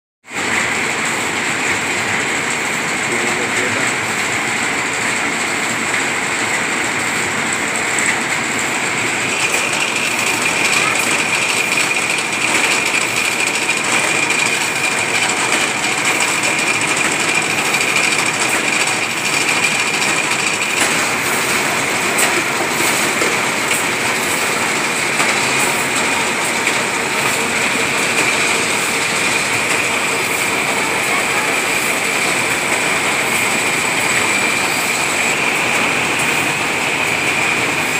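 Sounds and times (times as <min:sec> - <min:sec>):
reeling machine clatter: 0:00.4 - 0:37.9.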